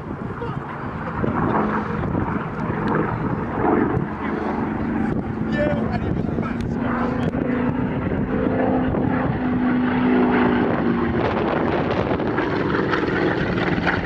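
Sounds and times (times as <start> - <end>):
radial aircraft engine droning: 0.0 - 14.0
wind on microphone: 0.0 - 14.0.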